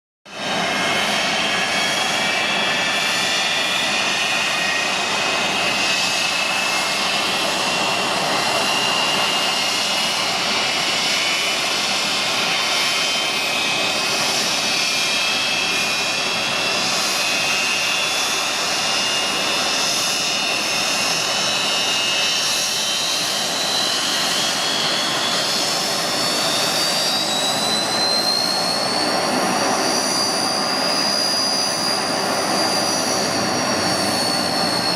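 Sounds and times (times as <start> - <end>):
rising turbine whine: 0.3 - 34.9.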